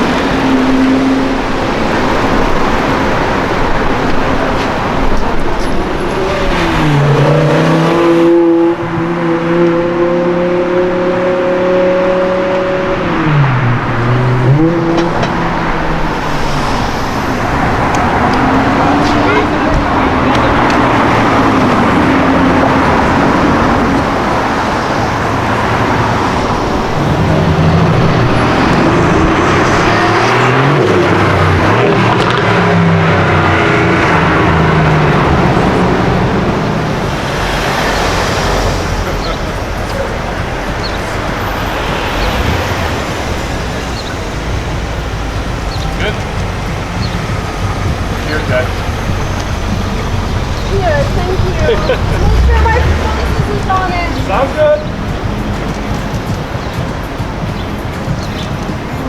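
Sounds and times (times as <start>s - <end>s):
car engine running: 0.0s - 59.0s
road and traffic noise: 0.0s - 59.0s.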